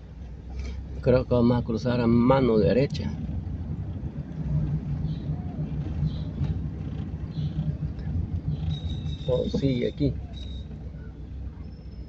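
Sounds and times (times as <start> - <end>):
car engine and tyres hum: 0.0 - 12.0.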